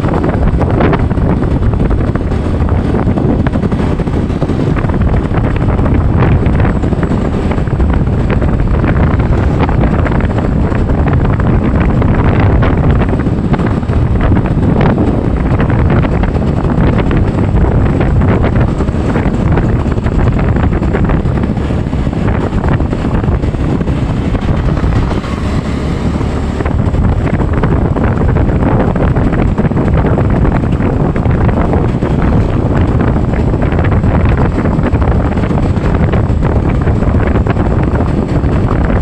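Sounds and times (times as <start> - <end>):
knocks and rattles: 0.0 - 39.0
vehicle low rumble: 0.0 - 39.0
wind buffeting microphone: 0.0 - 39.0.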